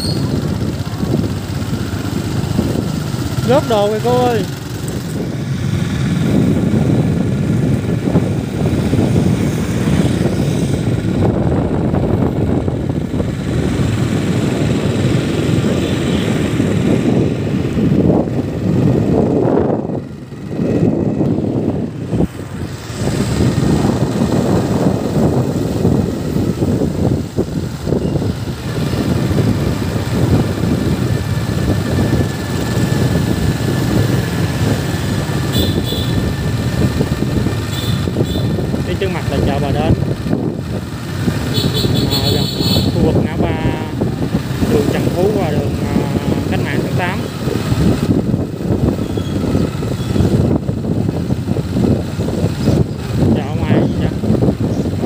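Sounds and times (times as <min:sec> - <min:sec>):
motorbike engine drone: 0:00.0 - 0:55.0
wind rumbling on microphone: 0:00.0 - 0:55.0.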